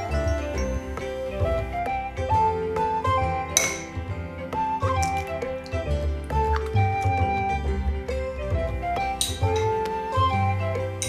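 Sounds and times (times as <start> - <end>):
light melody of held notes: 0.0 - 11.0
low bass line: 0.0 - 11.0.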